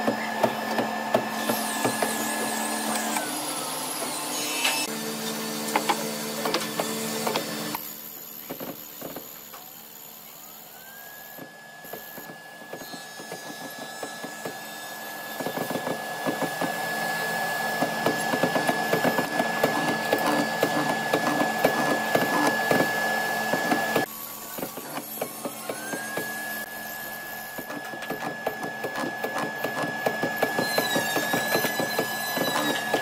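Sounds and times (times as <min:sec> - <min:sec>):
mortising machine whining: 0:00.0 - 0:33.0.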